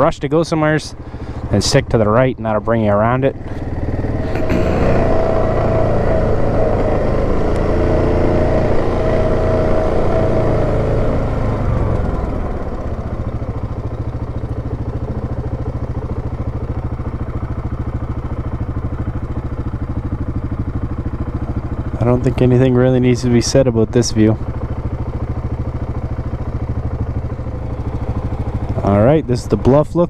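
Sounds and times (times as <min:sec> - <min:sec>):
quad bike engine revving and idling: 0:00.0 - 0:30.0.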